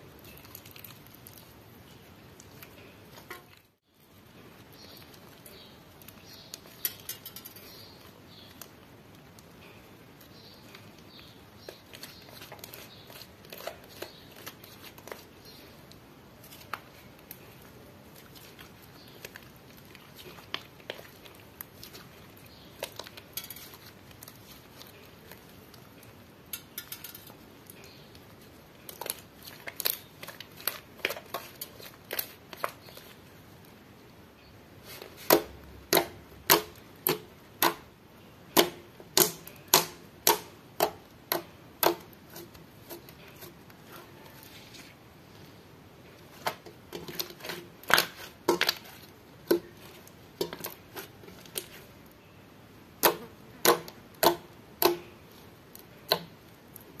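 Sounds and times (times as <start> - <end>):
slime squishing: 0.0 - 26.3, 27.2 - 33.8, 34.8 - 52.4.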